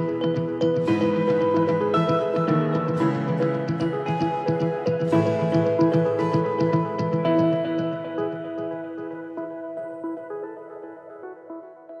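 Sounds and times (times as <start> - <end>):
soft struck notes music: 0.0 - 10.0.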